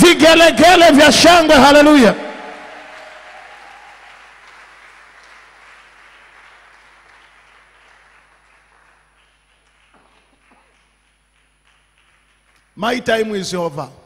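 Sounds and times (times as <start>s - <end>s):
congregation applauding: 0.7s - 13.8s.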